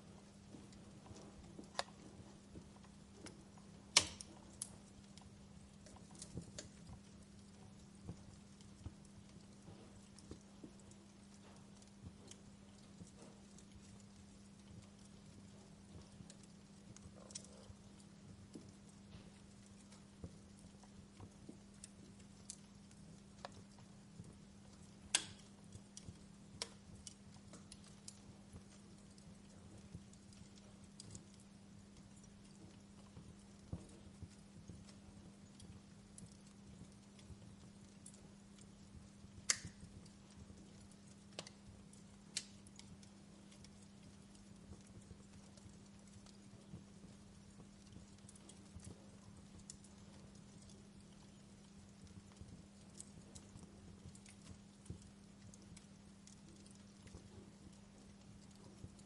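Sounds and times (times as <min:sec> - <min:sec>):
faint low hum: 0:00.0 - 0:59.0
firewood crackling in fireplace: 0:00.0 - 0:59.0.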